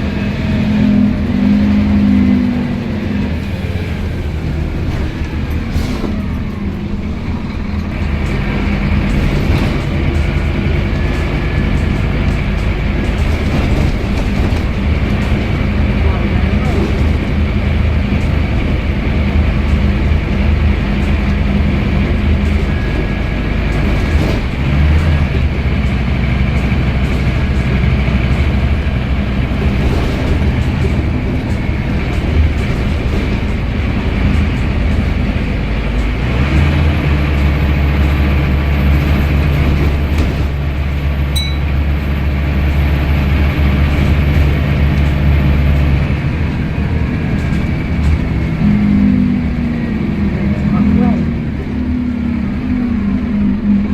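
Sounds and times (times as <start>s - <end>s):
bus diesel engine: 0.0s - 53.9s.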